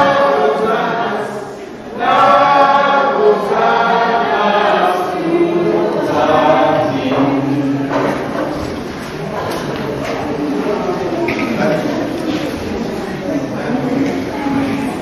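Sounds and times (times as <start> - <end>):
congregation singing: 0.0 - 15.0.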